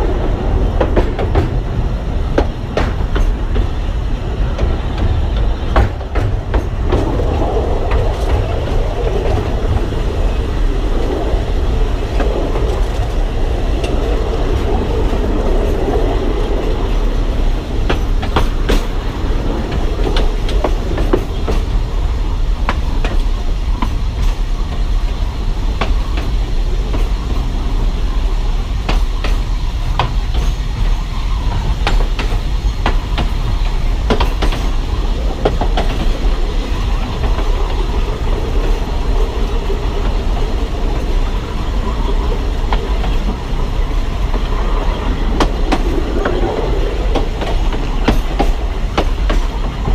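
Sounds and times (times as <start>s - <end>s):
train low rumble: 0.0s - 49.9s
wheels clicking over rail joints: 0.0s - 49.9s.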